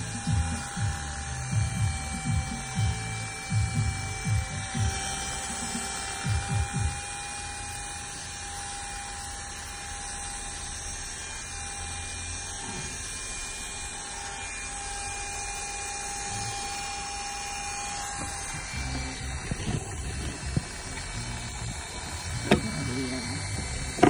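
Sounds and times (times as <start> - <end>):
electric hair clippers humming: 0.0 - 24.0.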